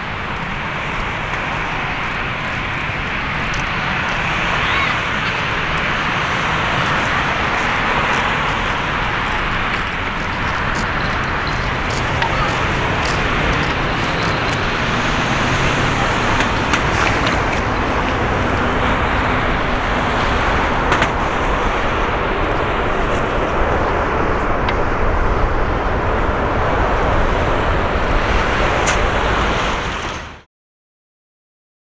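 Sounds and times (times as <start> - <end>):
jet engines rushing: 0.0 - 30.5.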